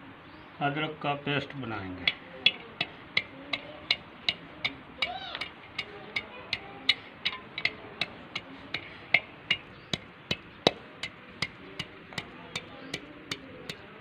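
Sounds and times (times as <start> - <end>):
pestle pounding in clay mortar: 2.0 - 14.0.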